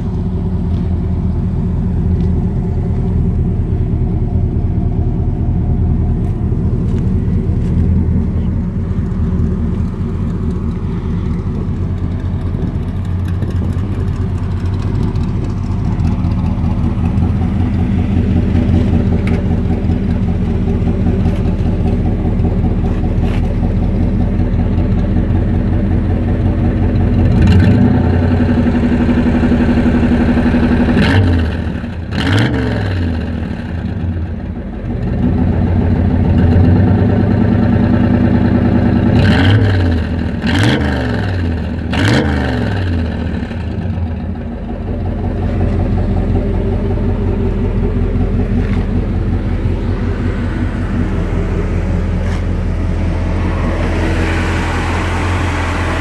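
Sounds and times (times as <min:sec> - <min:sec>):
pickup truck engine idling: 0:00.0 - 0:32.3, 0:33.0 - 0:40.6, 0:41.2 - 0:56.0
engine revving in throttle blips: 0:00.0 - 0:56.0.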